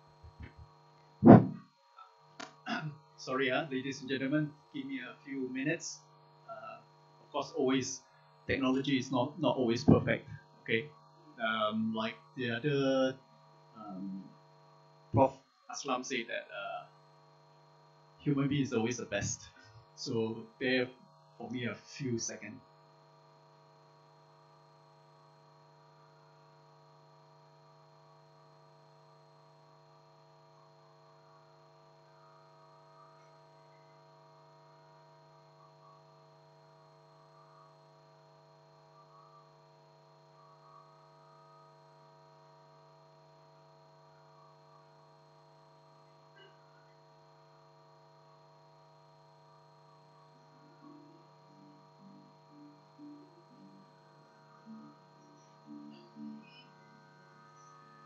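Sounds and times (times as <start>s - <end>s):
faint electrical hum: 0.0s - 58.0s.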